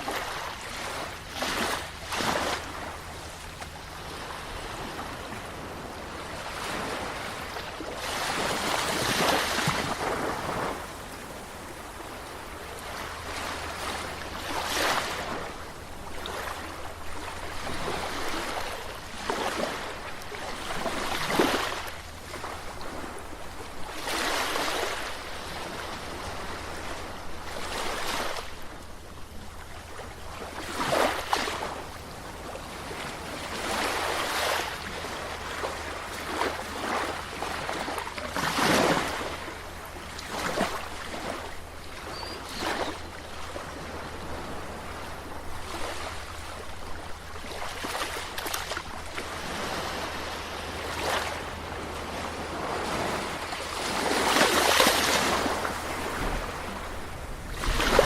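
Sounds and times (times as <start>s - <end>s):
sea waves splashing on shore: 0.0s - 58.0s.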